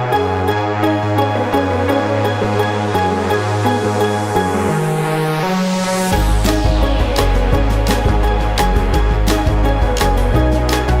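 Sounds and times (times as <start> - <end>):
electronic music with bass line: 0.0 - 11.0.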